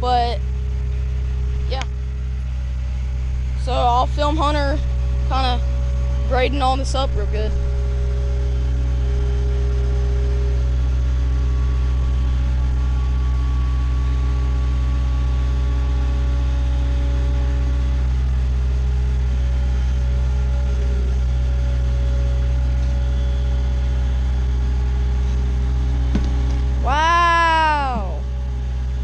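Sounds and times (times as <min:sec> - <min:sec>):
skid steer engine running: 0:00.0 - 0:29.0.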